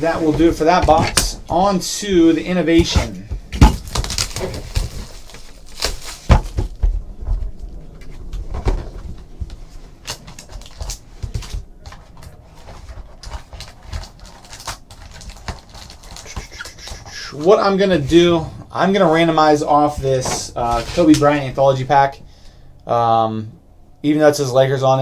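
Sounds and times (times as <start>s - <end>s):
card packs rustling and clicking: 0.0s - 22.6s.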